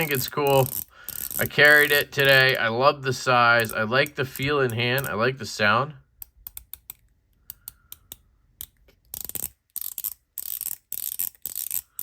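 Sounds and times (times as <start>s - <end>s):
fidget toy ratcheting clicks: 0.0s - 2.4s, 3.6s - 5.1s, 6.2s - 12.0s.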